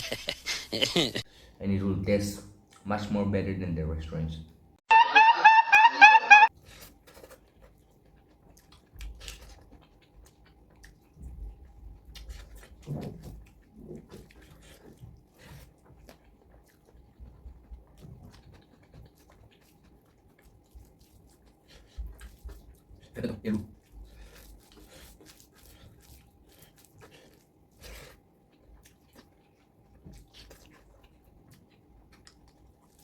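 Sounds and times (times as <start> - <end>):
person chewing food: 6.5 - 33.0.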